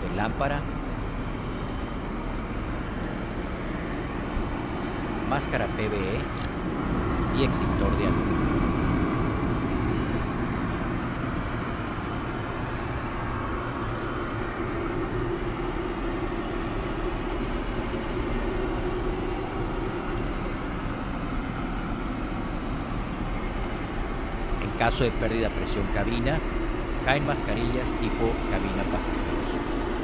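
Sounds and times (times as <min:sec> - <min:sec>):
aircraft cabin air rush and hum: 0:00.0 - 0:30.0.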